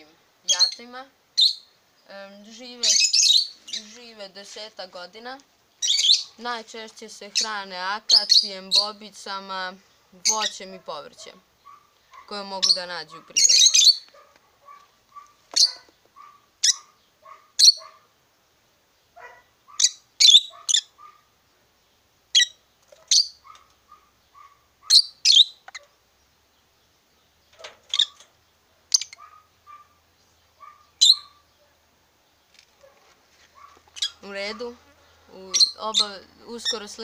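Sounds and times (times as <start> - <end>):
lovebirds chirping: 0.0 - 37.0.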